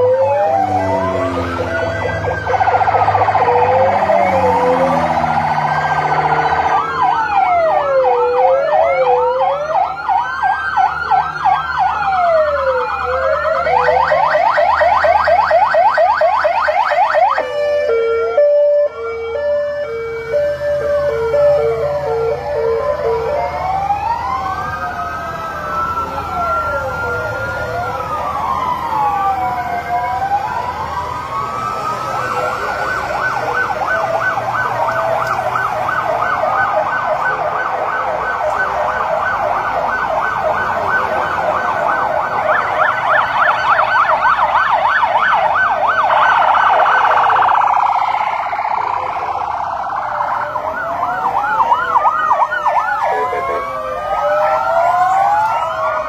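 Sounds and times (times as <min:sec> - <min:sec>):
police sirens wailing and yelping: 0:00.0 - 0:56.0.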